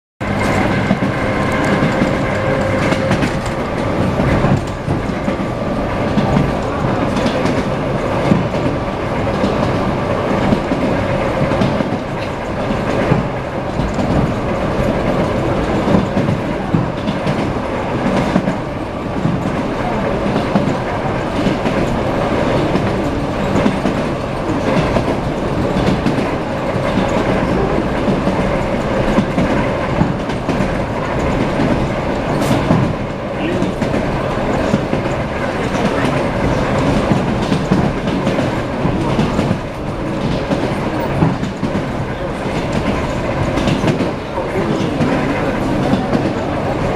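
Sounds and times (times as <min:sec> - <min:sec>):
train wheels clattering over rail joints: 0:00.2 - 0:46.9.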